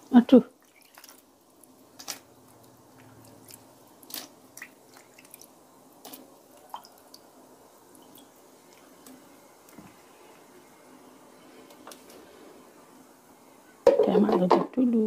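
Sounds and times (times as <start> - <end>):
soup bubbling: 0.0 - 12.8.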